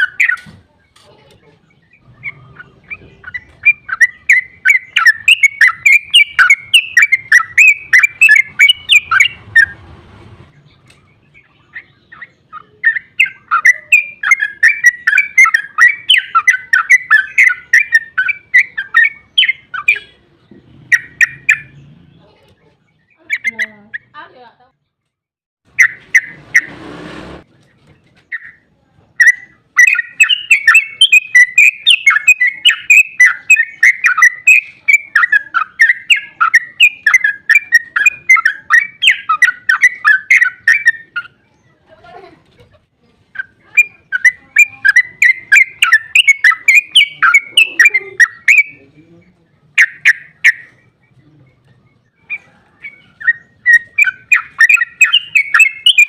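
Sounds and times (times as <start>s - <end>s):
bulbul chattering song: 0.0s - 25.0s, 25.7s - 26.8s, 28.2s - 42.2s, 42.8s - 56.0s.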